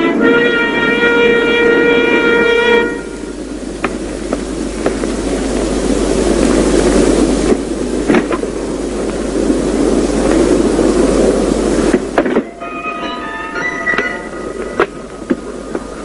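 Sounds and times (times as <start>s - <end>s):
airliner cabin rushing hum: 0.0s - 16.0s.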